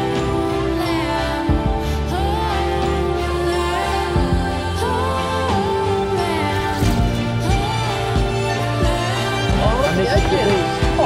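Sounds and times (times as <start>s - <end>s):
melodic music over steady bass: 0.0s - 11.0s.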